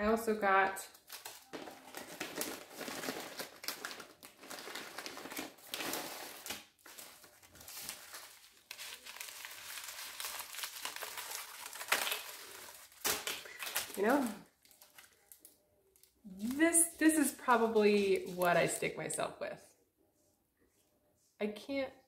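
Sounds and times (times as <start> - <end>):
paper and plastic packets crinkling: 0.8 - 18.9.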